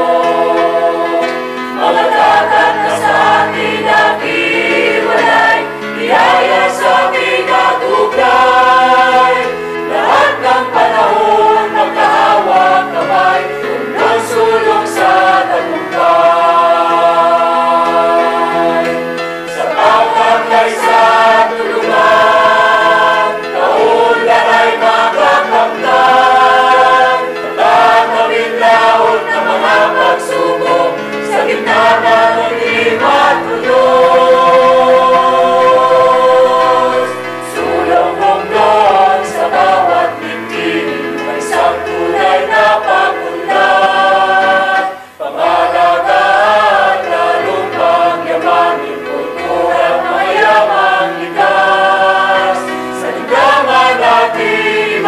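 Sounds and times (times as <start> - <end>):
choir singing: 0.0 - 55.0
musical accompaniment: 0.0 - 55.0.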